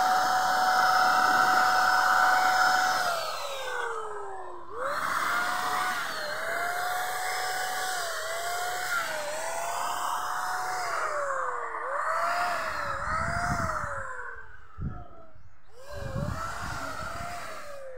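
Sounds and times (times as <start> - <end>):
electric paint spray gun whining: 0.0 - 17.9.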